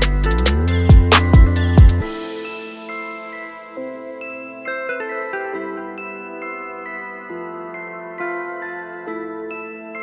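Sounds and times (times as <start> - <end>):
hip-hop beat with sustained chords: 0.0 - 10.0.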